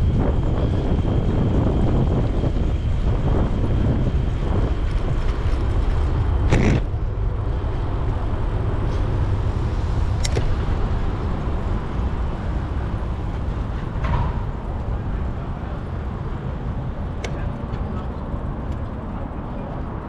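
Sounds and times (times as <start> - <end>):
city traffic: 0.0 - 20.0
wind buffeting microphone: 0.0 - 20.0.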